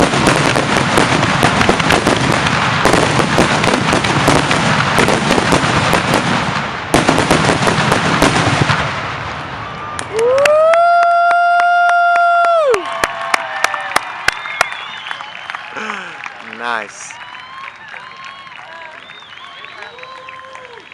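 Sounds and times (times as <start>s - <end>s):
fireworks bursting and crackling: 0.0s - 20.9s.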